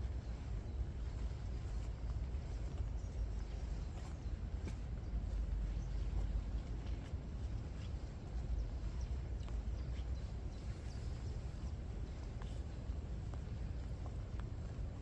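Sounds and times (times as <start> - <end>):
footsteps on forest path: 0.0 - 15.0.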